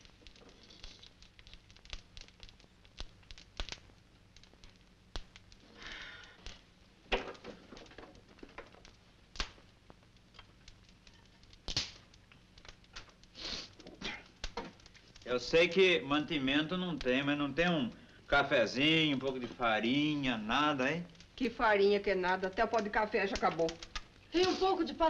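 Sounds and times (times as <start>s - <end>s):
faint low hum: 0.0s - 25.0s
film crackle clicks and pops: 0.0s - 25.0s.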